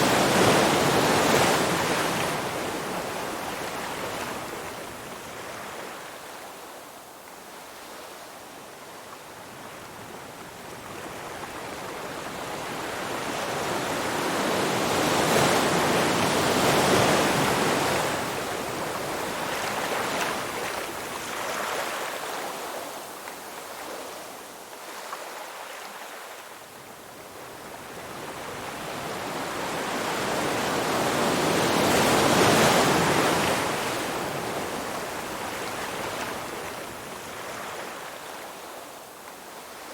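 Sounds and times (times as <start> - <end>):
ocean waves breaking on shore: 0.0 - 6.8, 9.5 - 39.9.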